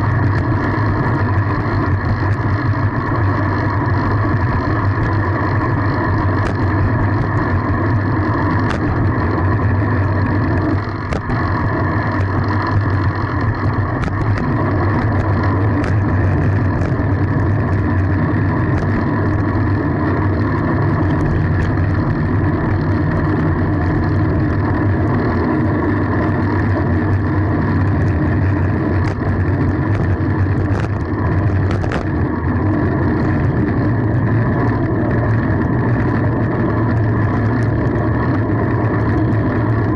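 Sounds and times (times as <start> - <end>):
wind and road noise rumble: 0.0 - 39.9.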